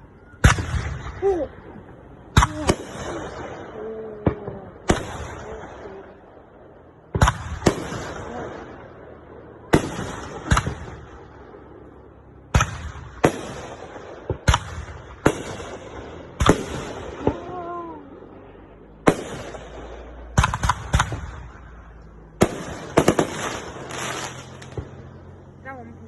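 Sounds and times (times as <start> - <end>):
fireworks banging with echo: 0.0 - 26.0.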